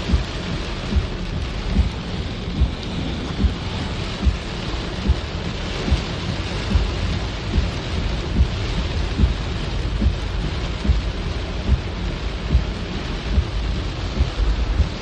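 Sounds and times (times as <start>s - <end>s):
deep rumble: 0.0s - 15.0s
heavy rain pouring: 0.0s - 15.0s
low thuds: 0.0s - 15.0s.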